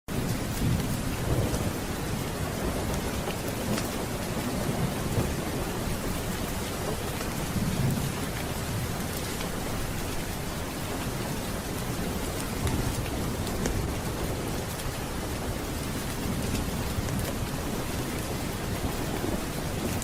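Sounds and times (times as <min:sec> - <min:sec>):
steady rain falling: 0:00.1 - 0:20.0
thunder rolling: 0:00.1 - 0:20.0.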